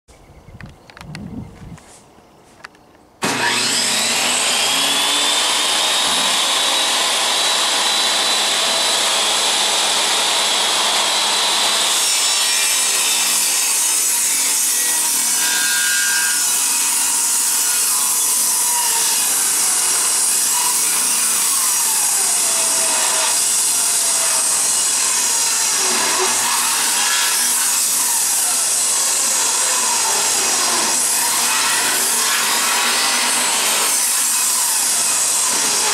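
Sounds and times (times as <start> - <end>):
power tool motor whining: 3.2 - 12.4, 15.1 - 35.9.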